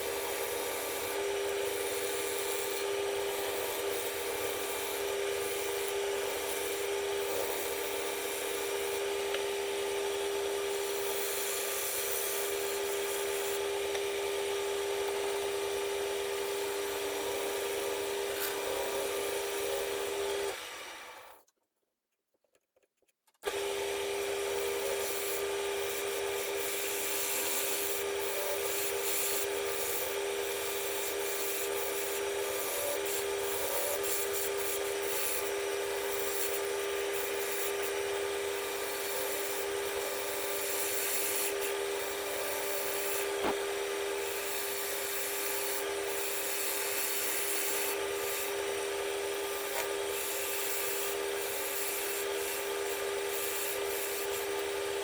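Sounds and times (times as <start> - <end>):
tool rasping on spinning wood: 0.0 - 21.1, 23.5 - 55.0
wood lathe humming: 0.0 - 21.4, 23.4 - 55.0.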